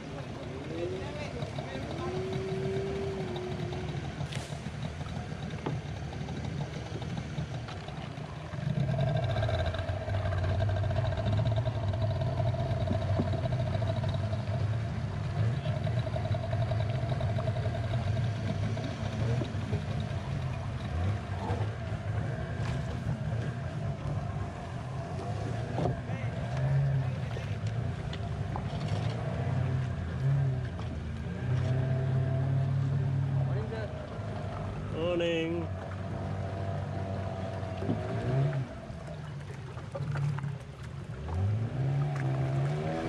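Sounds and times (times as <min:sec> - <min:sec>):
outboard motor running: 0:00.0 - 0:43.0
water rushing along hull: 0:00.0 - 0:43.0.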